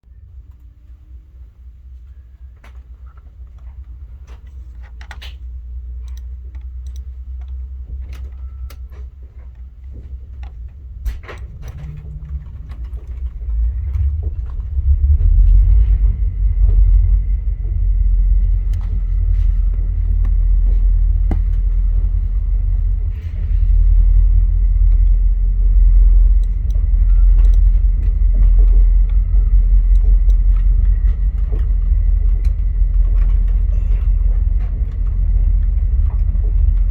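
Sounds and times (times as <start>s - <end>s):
train rumble: 0.0s - 36.9s
faint steady whine: 0.1s - 36.9s
sharp clicks and creaks: 2.6s - 36.9s.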